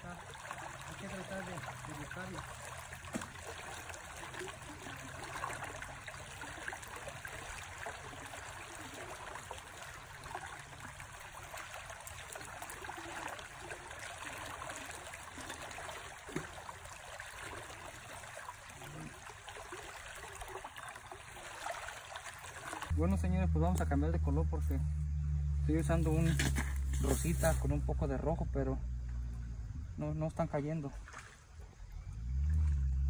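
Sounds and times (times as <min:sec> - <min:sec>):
shallow river trickling: 0:00.0 - 0:33.0.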